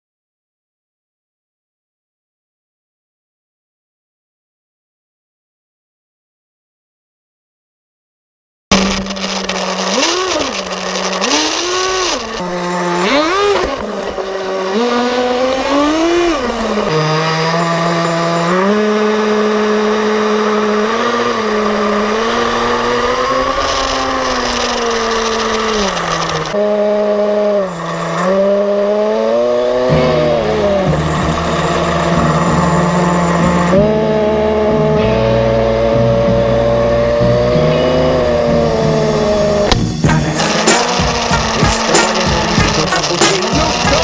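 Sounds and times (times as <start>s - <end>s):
small two-stroke engine revving: 8.7s - 44.0s.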